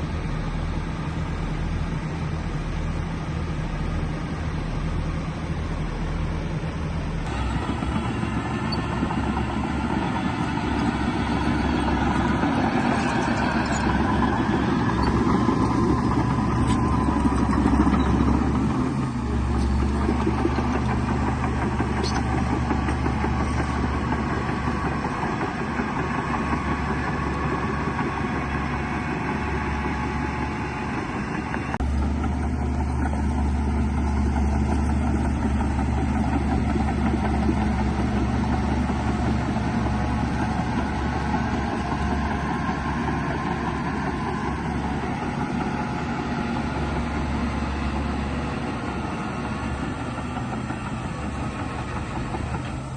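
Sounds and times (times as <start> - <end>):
heavy diesel engines droning: 0.0 - 52.9.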